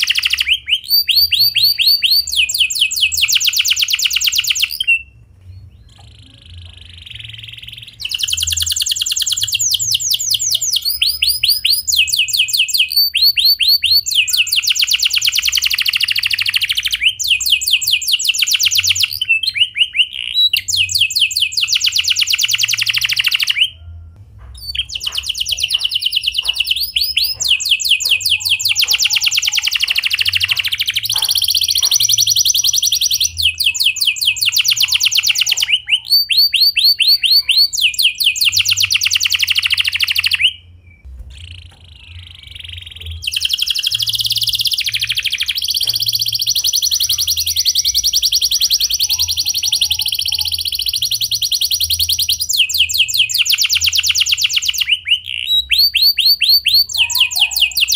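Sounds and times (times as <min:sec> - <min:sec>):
canary trilling: 0:00.0 - 0:57.9.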